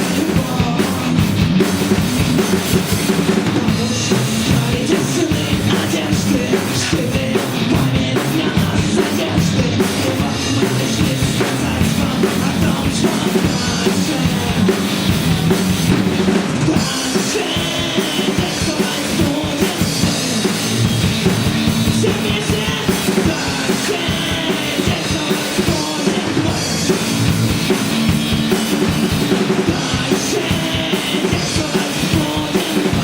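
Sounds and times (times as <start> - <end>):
drum kit: 0.0 - 33.0
rock band playing live: 0.0 - 33.0.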